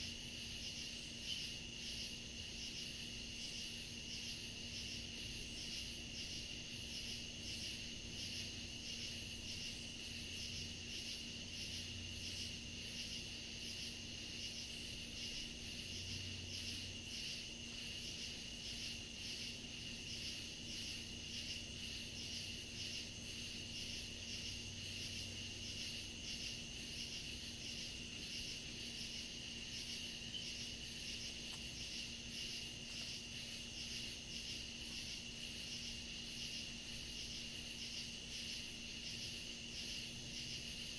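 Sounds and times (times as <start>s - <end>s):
crickets and insects trilling: 0.0s - 40.9s.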